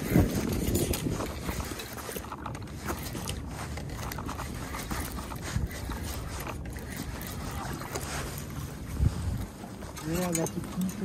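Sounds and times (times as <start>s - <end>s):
jacket sleeve brushing camera: 0.0s - 10.2s
wind buffeting microphone: 0.0s - 11.0s.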